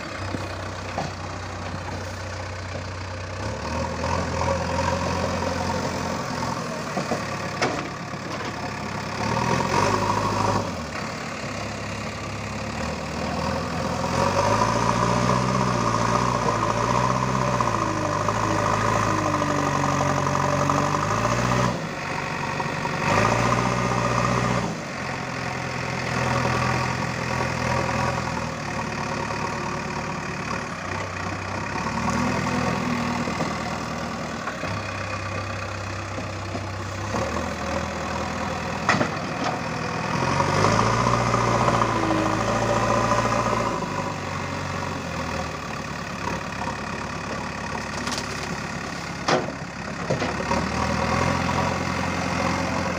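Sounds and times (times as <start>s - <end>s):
diesel engine revving: 0.0s - 52.9s.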